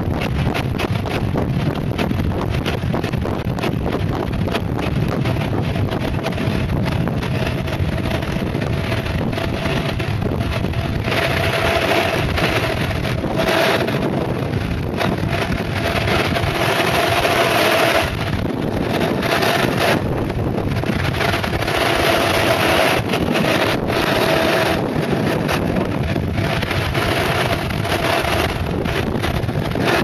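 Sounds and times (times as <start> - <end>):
tyres rolling on asphalt: 0.0 - 30.0
wind rushing over microphone: 0.0 - 30.0.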